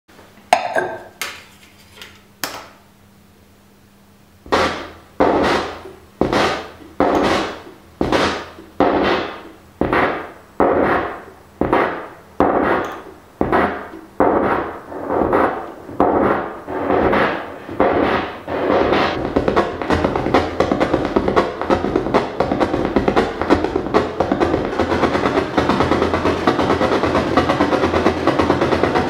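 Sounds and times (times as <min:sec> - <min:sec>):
looping percussive hit from record: 0:04.5 - 0:29.0.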